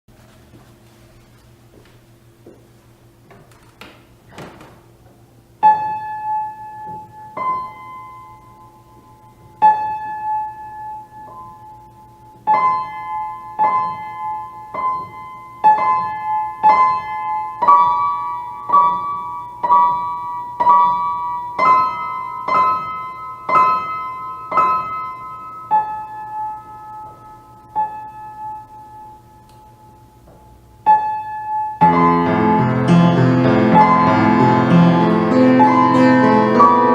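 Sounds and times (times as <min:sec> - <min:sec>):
faint steady hum: 0:00.1 - 0:36.9
slow piano melody: 0:05.6 - 0:36.9.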